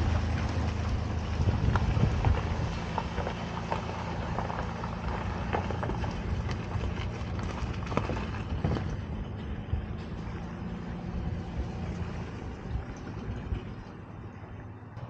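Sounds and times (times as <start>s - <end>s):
stones crunching under tyres: 0.0s - 14.4s
car engine running: 0.0s - 15.0s.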